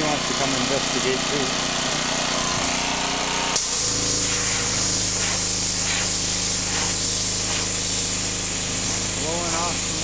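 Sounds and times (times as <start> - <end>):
high-pressure water jet hissing: 0.0 - 10.0
pressure washer engine hum: 0.0 - 10.0.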